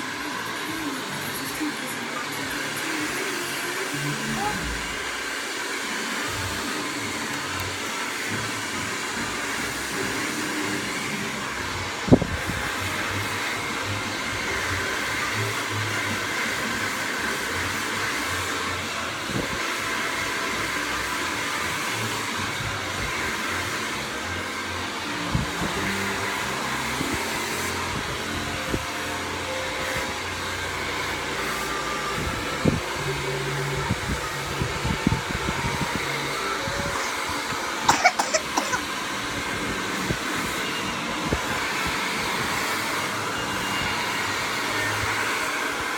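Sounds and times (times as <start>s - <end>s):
hair dryer running: 0.0s - 45.9s.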